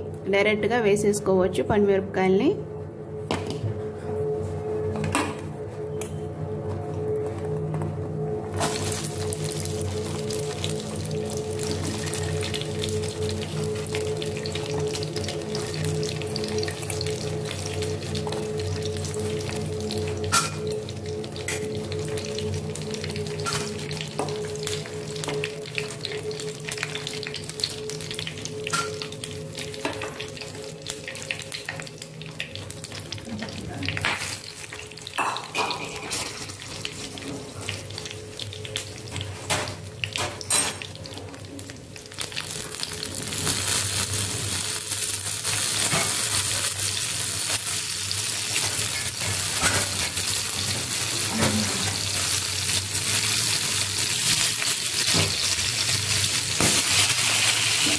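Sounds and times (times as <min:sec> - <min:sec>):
chillies sizzling in hot oil: 0:08.6 - 0:57.9.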